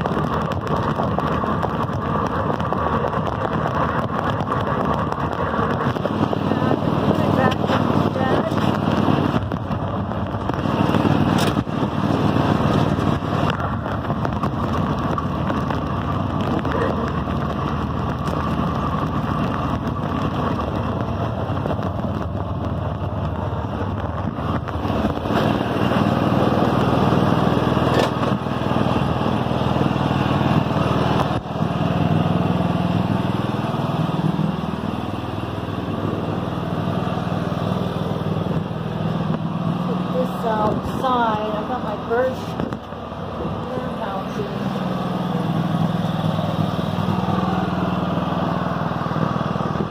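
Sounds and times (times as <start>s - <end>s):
riding lawn mower engine running: 0.0s - 49.9s.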